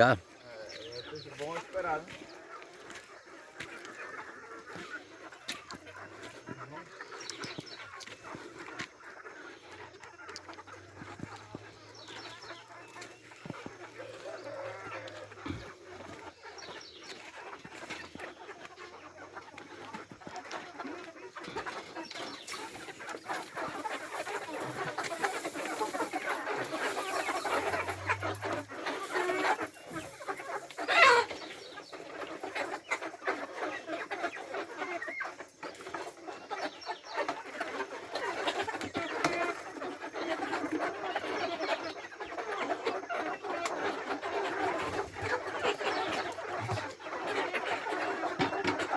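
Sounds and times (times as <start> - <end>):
hens clucking: 0.0 - 48.9.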